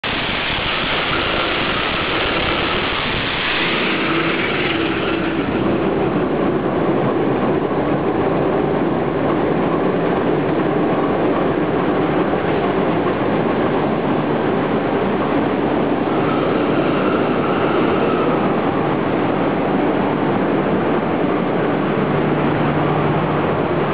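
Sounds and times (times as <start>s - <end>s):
marine diesel engines running: 0.0s - 23.9s.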